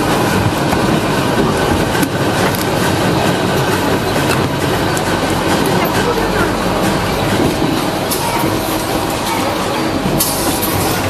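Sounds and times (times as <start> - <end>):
factory machinery clattering: 0.0 - 11.0.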